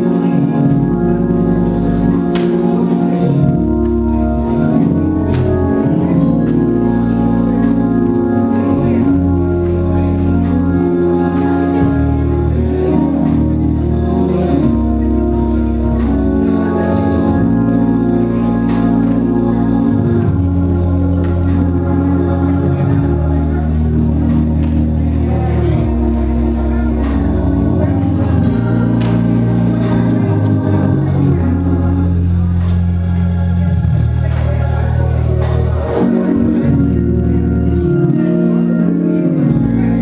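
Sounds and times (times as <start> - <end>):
organ playing slow chords: 0.0 - 40.0.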